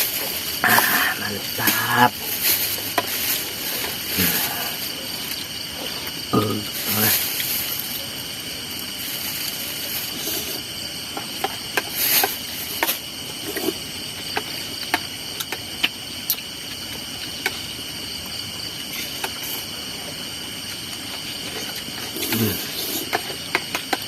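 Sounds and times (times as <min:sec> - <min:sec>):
night insects chorus: 0:00.0 - 0:24.0.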